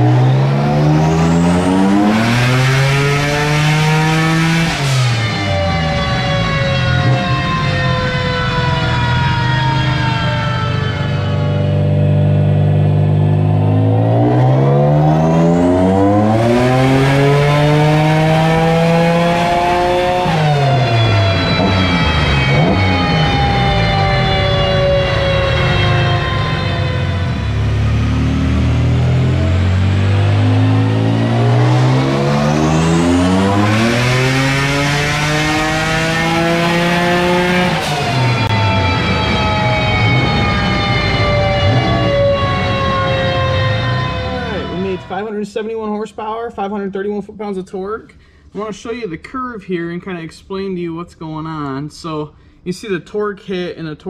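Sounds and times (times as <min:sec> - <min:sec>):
car engine revving on dyno: 0:00.0 - 0:45.2.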